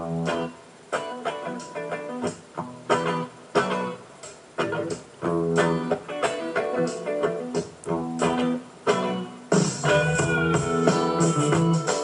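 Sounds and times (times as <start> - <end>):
plucked string instrument strumming: 0.0 - 12.0.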